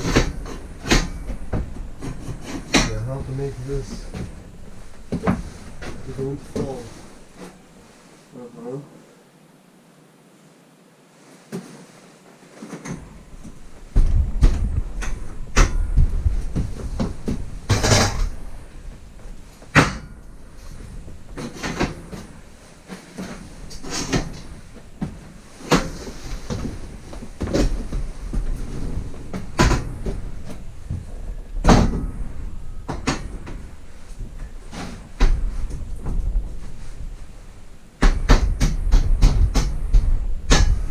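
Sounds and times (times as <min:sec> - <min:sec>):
scraping and rustling: 0:00.0 - 0:09.2, 0:11.0 - 0:40.9.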